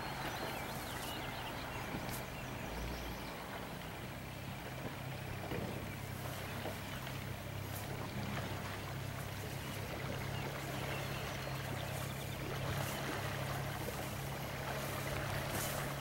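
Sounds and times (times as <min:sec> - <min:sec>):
boat engine humming: 0:00.0 - 0:16.0
water noise: 0:00.0 - 0:16.0.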